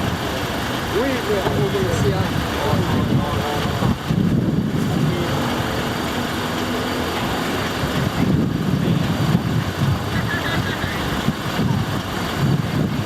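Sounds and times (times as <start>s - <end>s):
traffic noise: 0.0s - 13.0s
vehicle engines rumbling: 0.0s - 13.0s.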